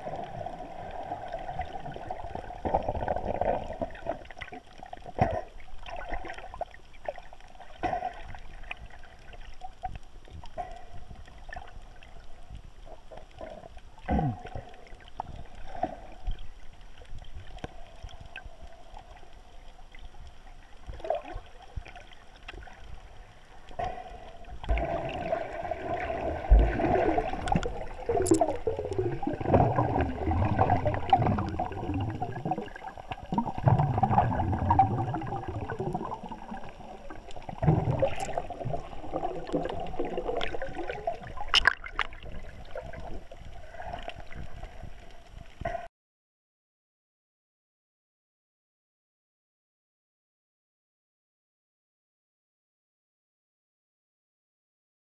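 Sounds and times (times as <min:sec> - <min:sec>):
underwater bubbling: 0:00.0 - 0:45.9.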